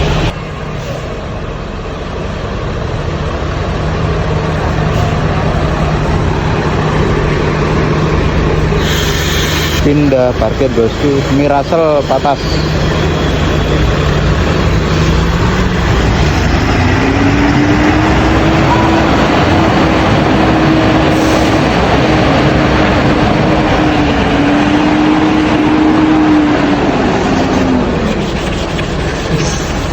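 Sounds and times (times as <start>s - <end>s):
bus engine running: 0.0s - 29.9s.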